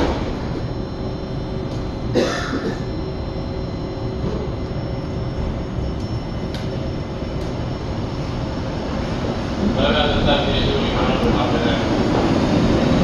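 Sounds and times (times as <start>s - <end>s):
metro car rumble and hum: 0.0s - 13.0s.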